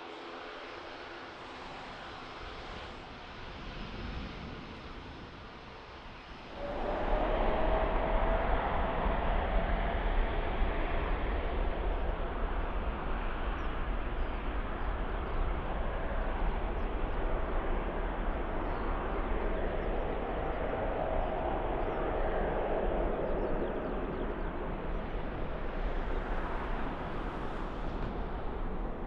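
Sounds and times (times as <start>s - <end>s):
jet engines roaring with whine: 0.0s - 29.0s.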